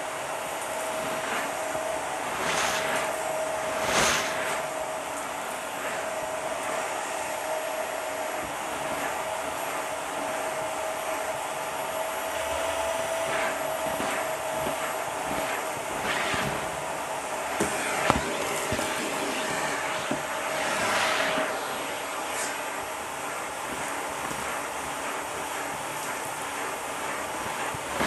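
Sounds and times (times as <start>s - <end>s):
vacuum cleaner whining: 0.0s - 28.0s.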